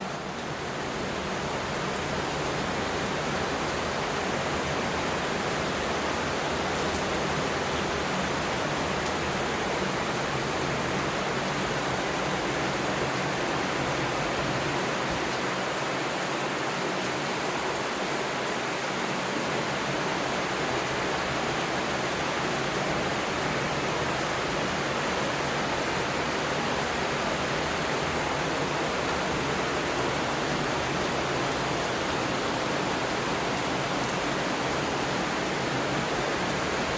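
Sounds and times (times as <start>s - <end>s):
flowing water rushing: 0.1s - 36.9s.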